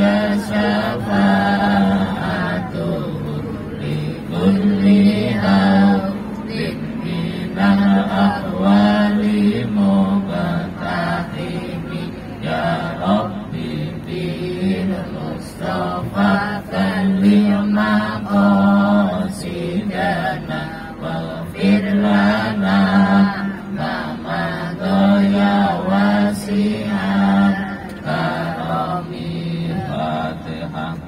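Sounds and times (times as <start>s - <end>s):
voices chanting in unison: 0.0s - 31.0s.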